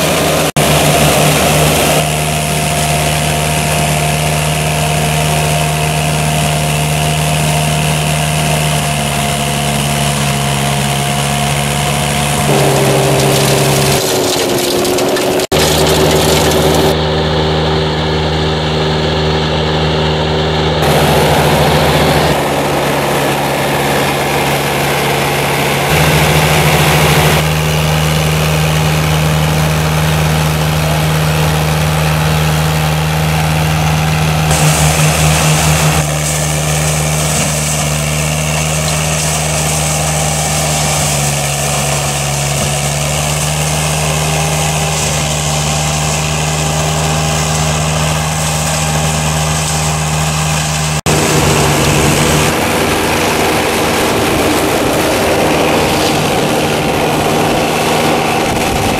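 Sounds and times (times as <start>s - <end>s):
mulcher engine running: 0.0s - 58.9s.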